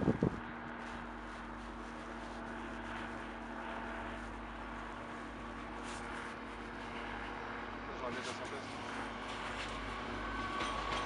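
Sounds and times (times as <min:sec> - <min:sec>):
diesel engine hum: 0:00.0 - 0:11.0.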